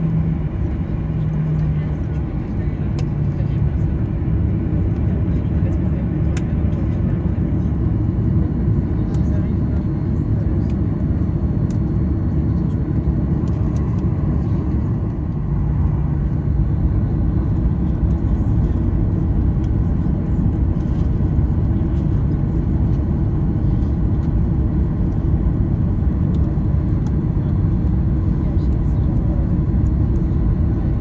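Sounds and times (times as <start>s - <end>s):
jet airliner cabin rumble: 0.0s - 31.0s.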